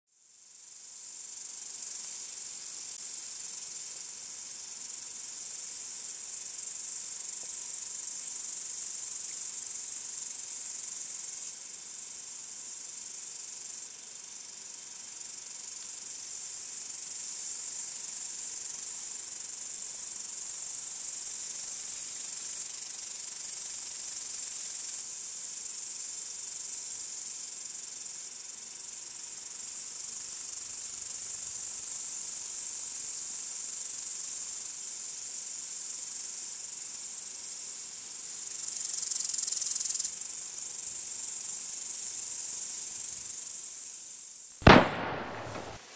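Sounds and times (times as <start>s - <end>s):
field crickets chirping: 0.2s - 45.9s.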